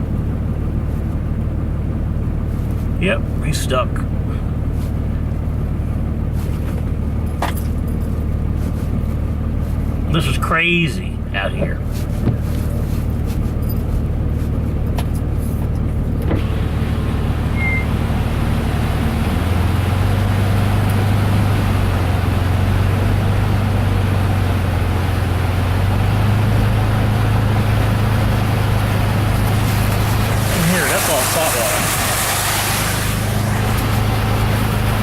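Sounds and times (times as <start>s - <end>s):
road noise hiss: 0.0s - 35.0s
truck engine hum: 0.0s - 35.0s.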